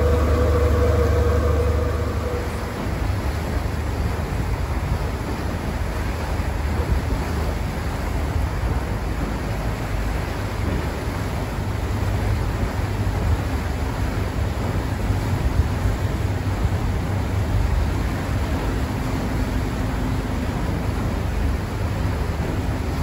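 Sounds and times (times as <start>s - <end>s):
water washing along hull: 0.0s - 23.0s.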